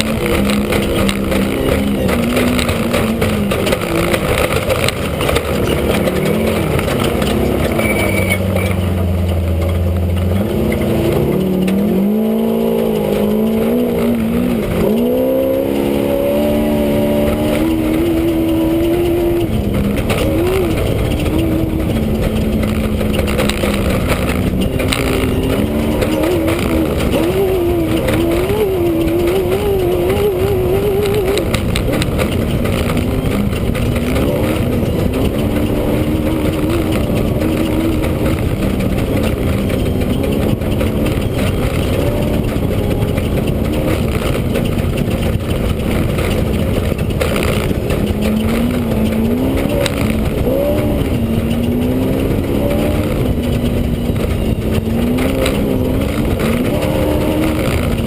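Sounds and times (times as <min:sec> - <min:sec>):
race vehicle engine revving: 0:00.0 - 0:58.0
rattling: 0:00.0 - 0:58.0
wind noise: 0:00.0 - 0:58.0.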